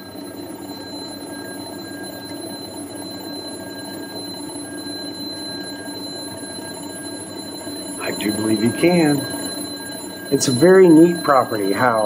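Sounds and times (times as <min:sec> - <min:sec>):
muffled electric alarm bell ringing: 0:00.0 - 0:12.0.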